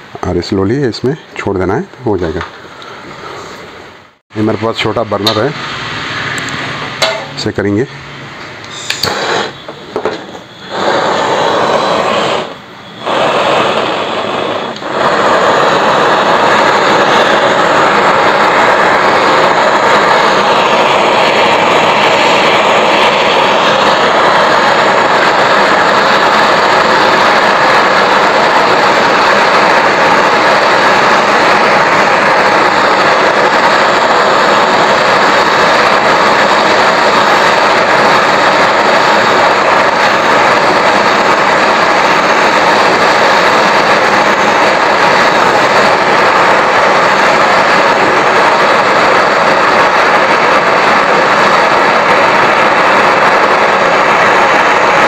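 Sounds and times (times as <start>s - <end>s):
brazing torch hissing: 2.2s - 55.0s.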